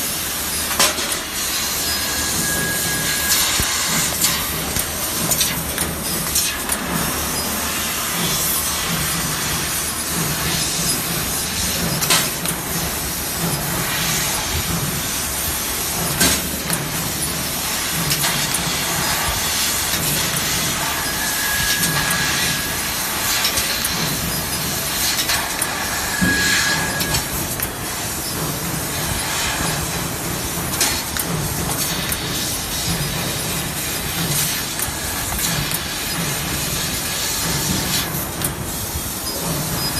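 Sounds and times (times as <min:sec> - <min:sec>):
laser cutter hiss: 0:00.0 - 0:39.9.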